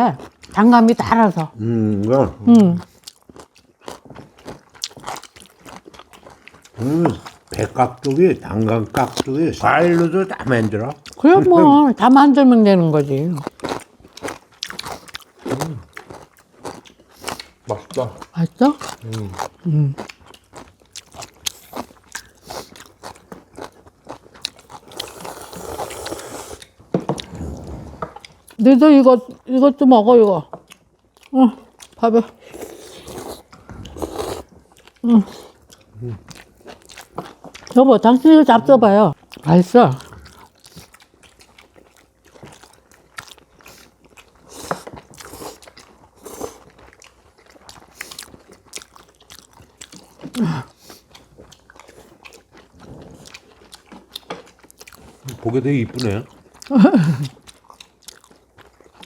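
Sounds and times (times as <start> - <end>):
crunchy food bites and chewing: 1.4 - 11.2, 13.2 - 28.6, 30.6 - 37.8, 39.2 - 59.0.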